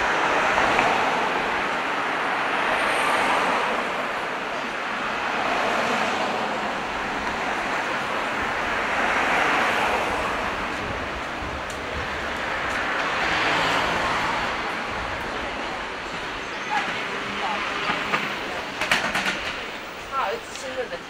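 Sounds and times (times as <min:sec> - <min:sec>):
traffic roar: 0:00.0 - 0:21.0.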